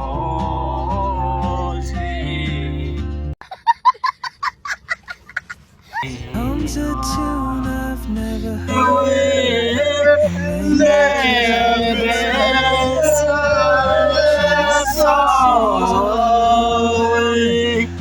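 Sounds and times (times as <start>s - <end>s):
man singing with instruments: 0.0s - 3.1s, 6.0s - 18.0s.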